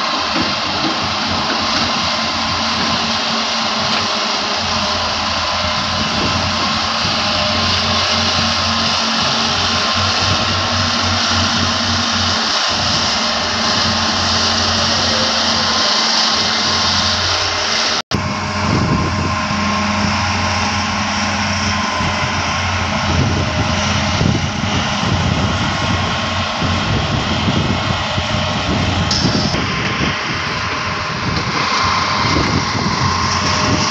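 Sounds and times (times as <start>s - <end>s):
excavator diesel engines running: 0.0s - 33.9s.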